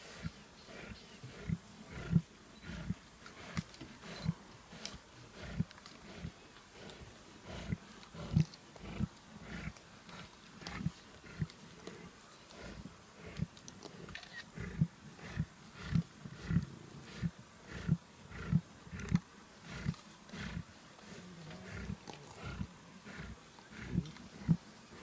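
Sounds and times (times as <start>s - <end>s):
lions chewing and growling: 0.0s - 25.0s.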